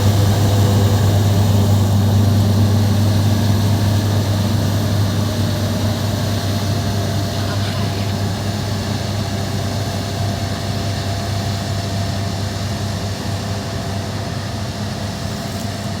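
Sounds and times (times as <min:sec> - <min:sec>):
machinery engine droning: 0:00.0 - 0:16.0.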